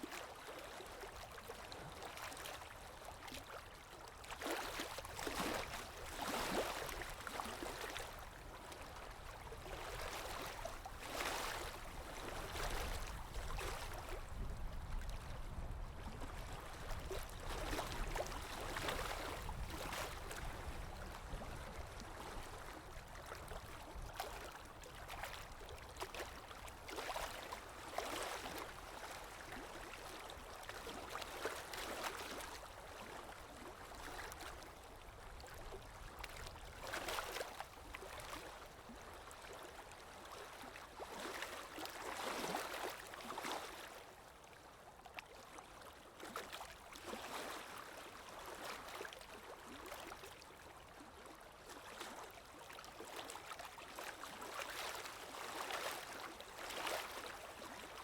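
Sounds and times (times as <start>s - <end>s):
water lapping: 0.2s - 58.0s.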